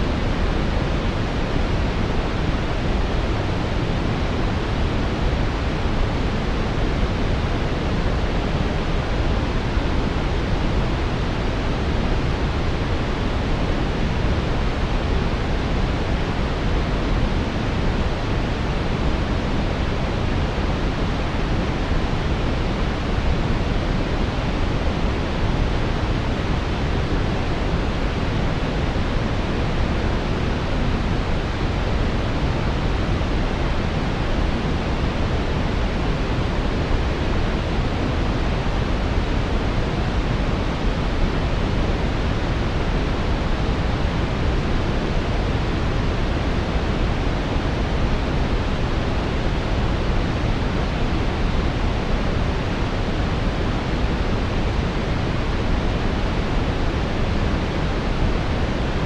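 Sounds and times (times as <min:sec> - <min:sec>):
steady brown noise: 0:00.0 - 0:59.0.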